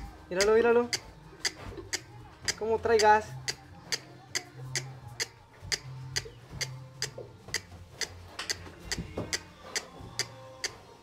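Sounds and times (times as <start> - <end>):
horse hooves on hard floor: 0.0 - 11.0.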